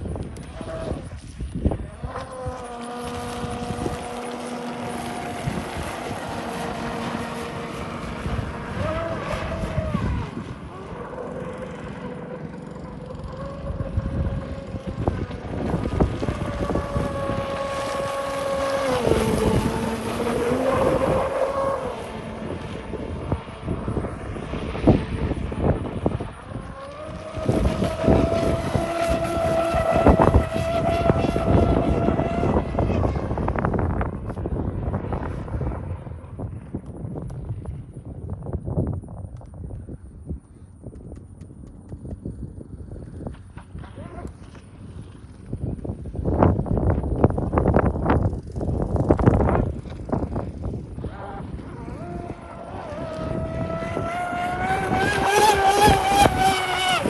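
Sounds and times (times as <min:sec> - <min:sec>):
electric motor whine: 0:00.0 - 0:38.0, 0:42.6 - 0:57.0.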